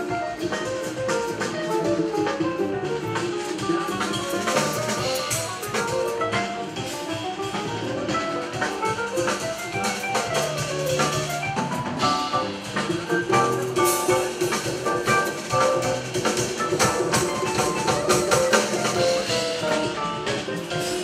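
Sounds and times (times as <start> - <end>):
bass line: 0.0 - 21.0
drum kit and cymbals: 0.0 - 21.0
jazz piano runs: 0.0 - 21.0.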